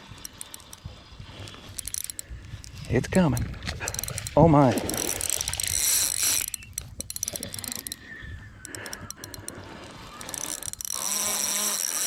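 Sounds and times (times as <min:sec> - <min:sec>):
fishing reel drag buzzing: 0:00.0 - 0:12.0
slow reel clicks: 0:00.0 - 0:12.0.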